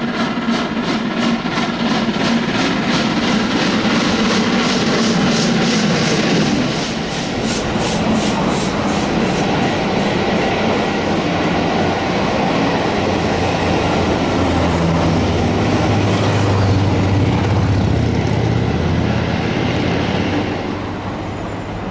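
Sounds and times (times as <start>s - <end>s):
train wheels clicking over rail joints: 0.0s - 20.8s
diesel locomotive engine hum: 0.0s - 21.9s.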